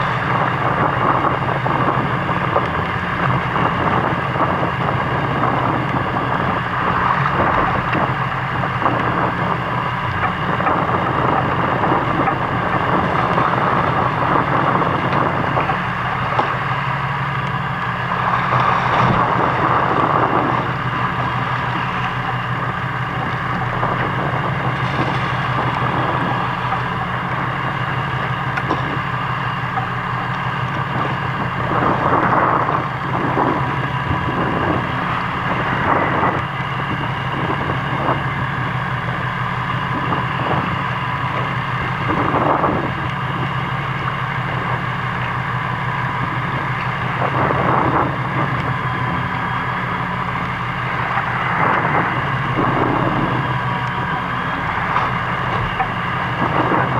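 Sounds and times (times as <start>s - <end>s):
boat engine humming: 0.0s - 56.9s
water rushing: 0.0s - 56.9s
wind: 0.0s - 56.9s.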